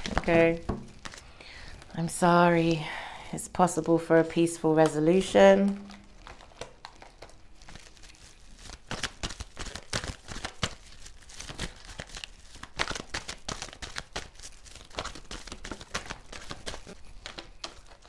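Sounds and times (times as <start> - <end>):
cards being shuffled: 0.0 - 2.0, 3.7 - 18.0.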